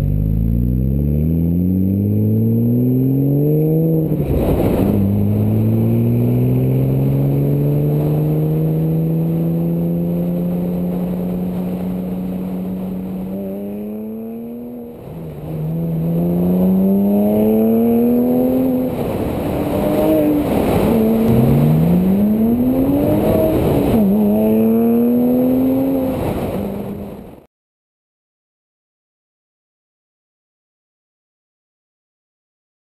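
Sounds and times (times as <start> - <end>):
sports car engine accelerating: 0.0 - 27.4.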